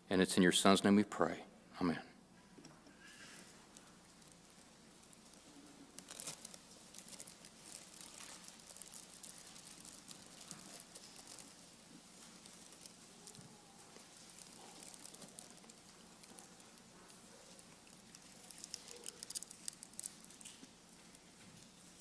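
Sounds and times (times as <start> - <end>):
faint steady hum: 0.0 - 22.0
bread crinkling and clicks: 3.2 - 22.0.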